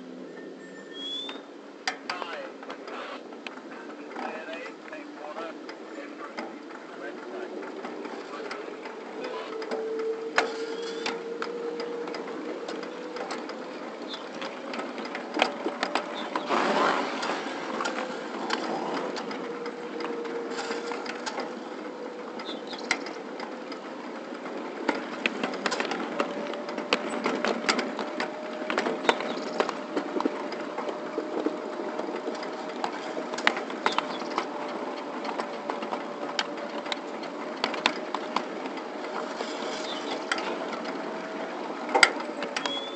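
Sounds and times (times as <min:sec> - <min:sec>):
miniature train whine: 0:00.0 - 0:42.9
wheels clicking over rail joints: 0:00.0 - 0:42.9.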